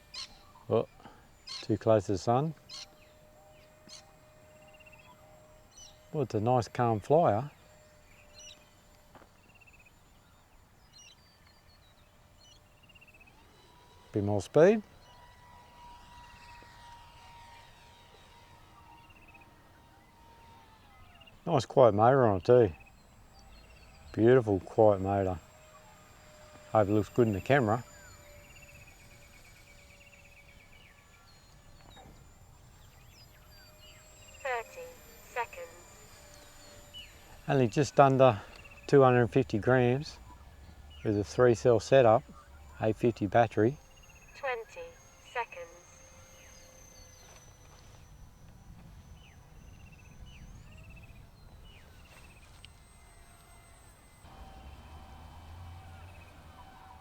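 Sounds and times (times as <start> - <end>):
small electric motor whine: 0.0 - 57.0
wildlife chirps and trills: 0.0 - 57.0.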